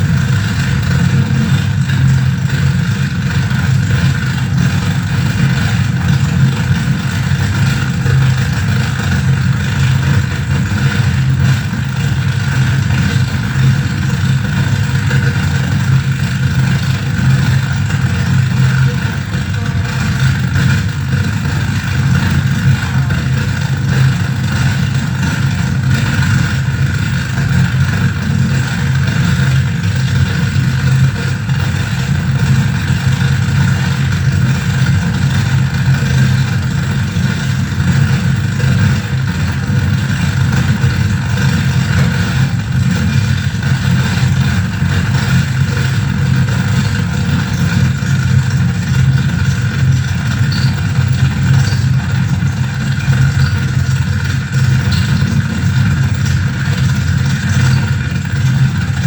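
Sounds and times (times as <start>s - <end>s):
harsh noise drone: 0.0s - 59.0s.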